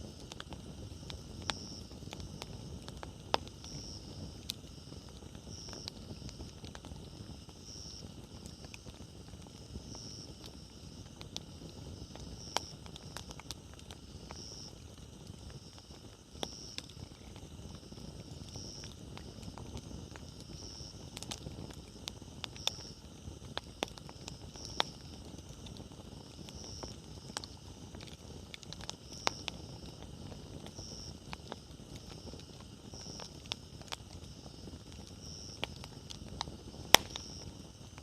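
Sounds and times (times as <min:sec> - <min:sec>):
fire crackling and popping: 0:00.0 - 0:38.0
low rumble of flames: 0:00.0 - 0:38.0.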